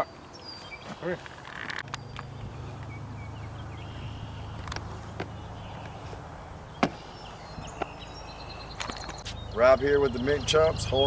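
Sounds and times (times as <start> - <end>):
steady low hum: 1.8 - 10.9.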